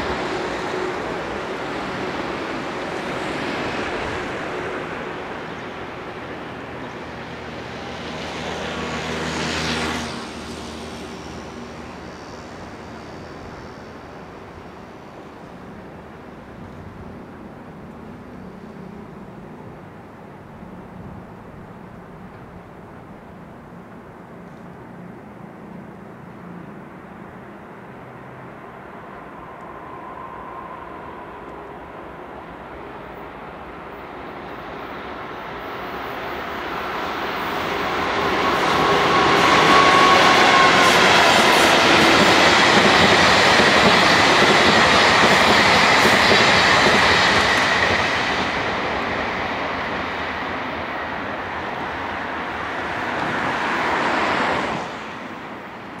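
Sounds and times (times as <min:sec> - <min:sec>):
train passing on rails: 0:00.0 - 0:56.0.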